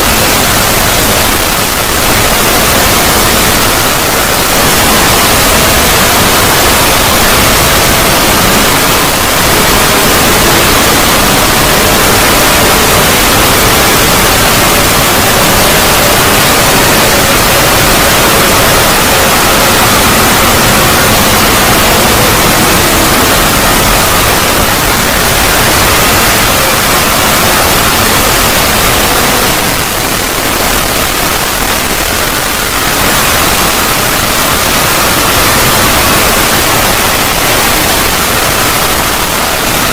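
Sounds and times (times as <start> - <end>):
loud static noise: 0.0 - 39.9.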